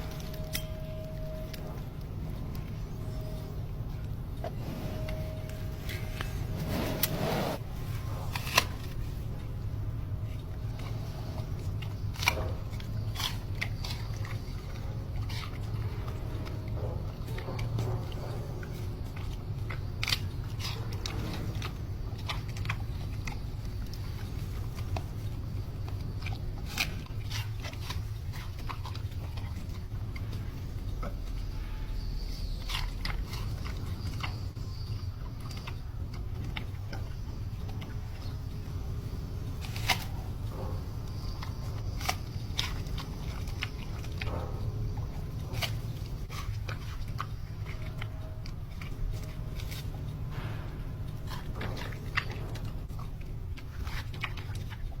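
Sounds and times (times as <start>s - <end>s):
panda crunching and chewing: 0.0s - 55.0s
steady low hum: 0.0s - 55.0s.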